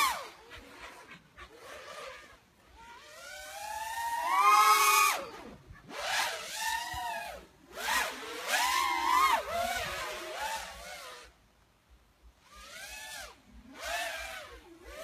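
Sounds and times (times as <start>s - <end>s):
drone motors whining: 0.0s - 11.4s, 12.4s - 15.0s.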